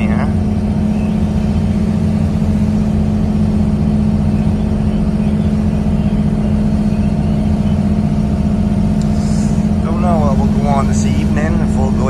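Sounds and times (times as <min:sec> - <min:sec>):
engine droning under load: 0:00.0 - 0:12.0.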